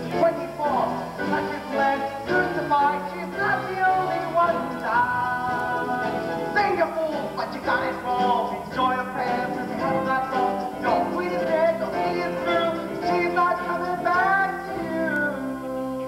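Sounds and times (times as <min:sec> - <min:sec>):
cast singing: 0:00.0 - 0:16.0
instrumental accompaniment: 0:00.0 - 0:16.0.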